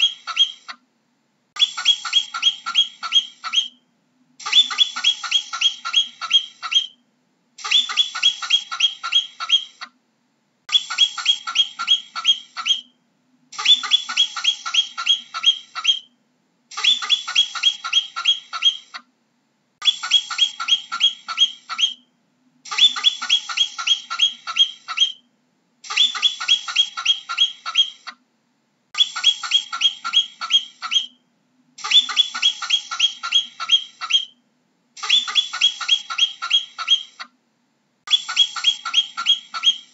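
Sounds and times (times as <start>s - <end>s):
marmot calling: 0.0s - 0.8s, 1.6s - 7.0s, 7.6s - 10.0s, 10.7s - 13.0s, 13.6s - 19.1s, 19.8s - 22.1s, 22.7s - 28.2s, 29.0s - 31.2s, 31.8s - 34.4s, 35.0s - 37.4s, 38.1s - 39.9s.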